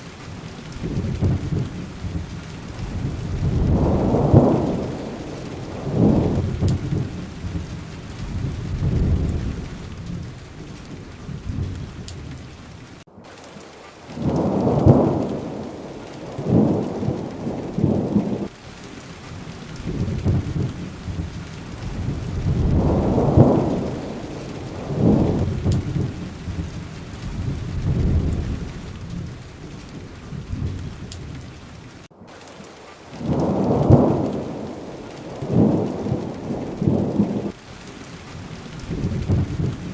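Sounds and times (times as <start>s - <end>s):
steady rain falling: 0.0s - 39.9s
low rolls of thunder: 0.3s - 13.0s, 14.1s - 32.0s, 33.1s - 39.9s.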